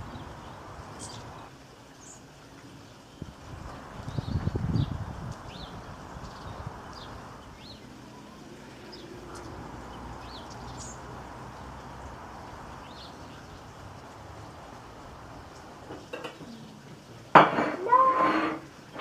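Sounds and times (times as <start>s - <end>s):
small birds chirping: 0.0s - 17.3s
steady background hiss: 0.0s - 19.0s.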